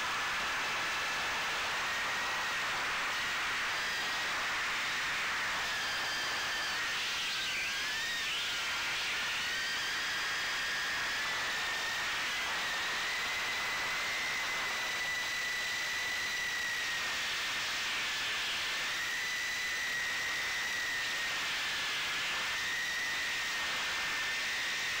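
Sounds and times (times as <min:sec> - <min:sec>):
quadcopter motors whining: 0:00.9 - 0:25.0.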